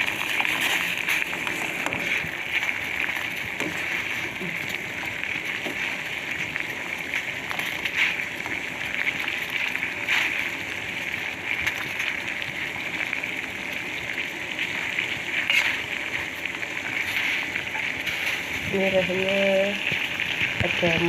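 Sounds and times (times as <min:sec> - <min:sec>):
pot boiling: 0:00.0 - 0:21.0.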